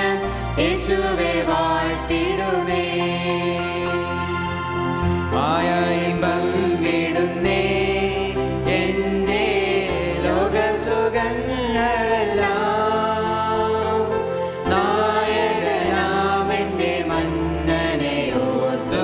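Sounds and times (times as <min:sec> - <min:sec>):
voices singing a hymn: 0:00.0 - 0:19.0.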